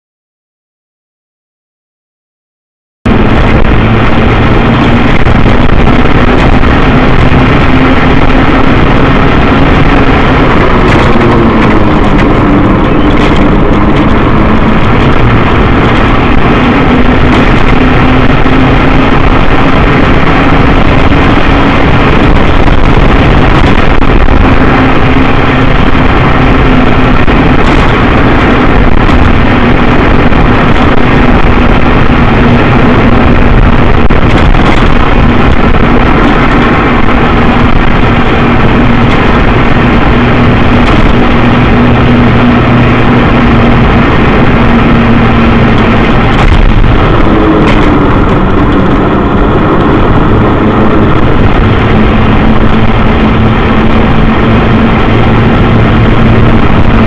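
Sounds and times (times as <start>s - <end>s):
wind noise on microphone: 3.0s - 57.0s
motor scooter engine running: 3.1s - 57.0s.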